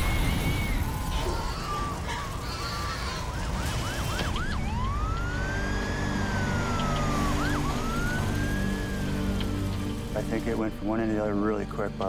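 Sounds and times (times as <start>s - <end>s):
emergency vehicle siren: 0.0s - 11.8s.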